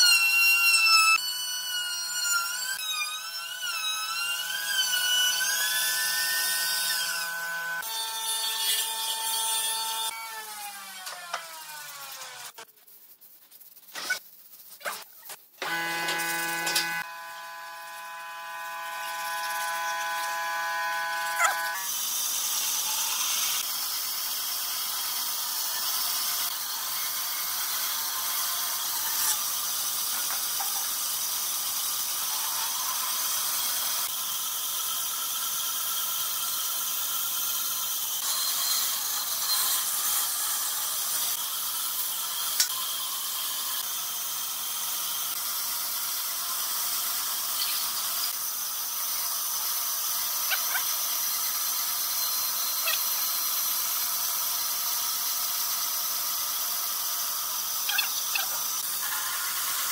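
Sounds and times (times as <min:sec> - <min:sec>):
band saw cutting wood: 0:00.0 - 0:12.6, 0:15.6 - 0:59.9.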